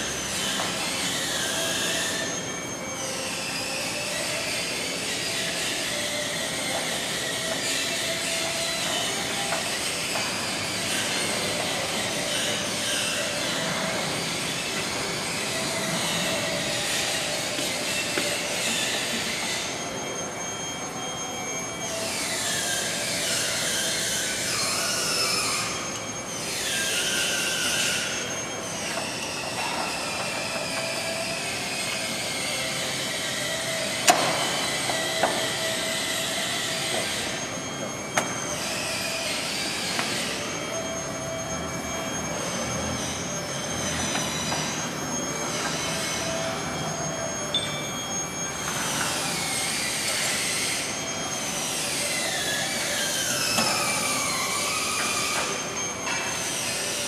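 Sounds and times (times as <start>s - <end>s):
metal-on-metal screeching: 0.0s - 57.0s.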